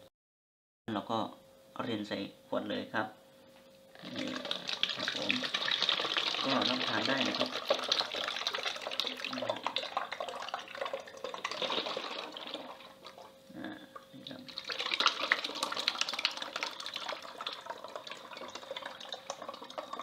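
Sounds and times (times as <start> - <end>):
liquid pouring into a bottle: 4.0 - 20.0.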